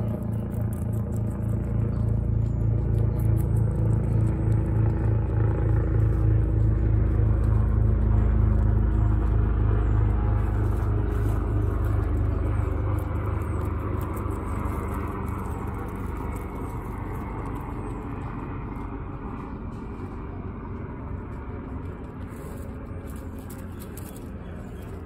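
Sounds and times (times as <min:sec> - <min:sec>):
pulsing motor rumble: 0:00.0 - 0:25.0.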